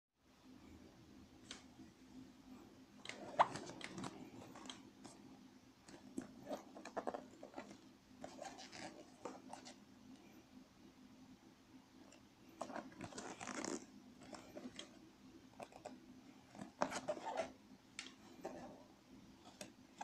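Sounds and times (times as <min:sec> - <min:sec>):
faint steady hum: 0:00.2 - 0:20.0.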